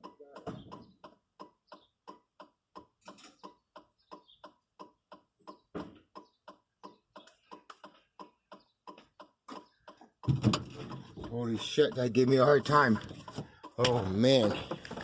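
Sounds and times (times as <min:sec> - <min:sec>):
steady mechanical clicking: 0:00.0 - 0:15.0.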